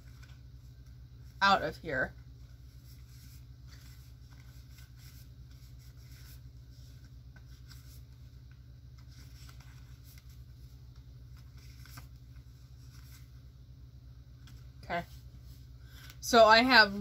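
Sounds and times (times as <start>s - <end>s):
paper cards rustling: 0.0s - 1.4s, 2.2s - 13.4s, 14.4s - 16.2s
steady low hum: 0.0s - 17.0s.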